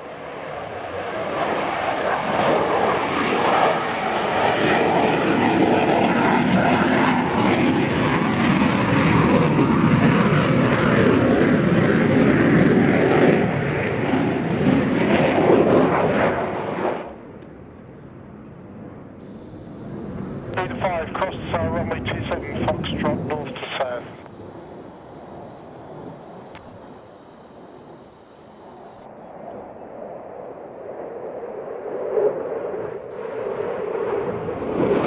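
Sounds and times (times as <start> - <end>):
aircraft engine roar: 0.0 - 35.0.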